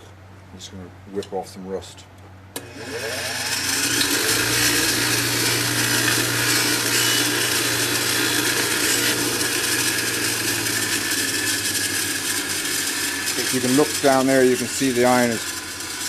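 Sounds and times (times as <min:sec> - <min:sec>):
electric power tool on metal: 0:02.6 - 0:16.0.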